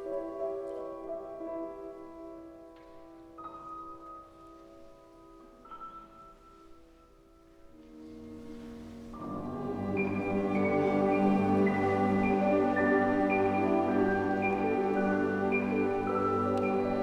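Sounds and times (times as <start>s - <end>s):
live classical music: 0.0s - 17.0s.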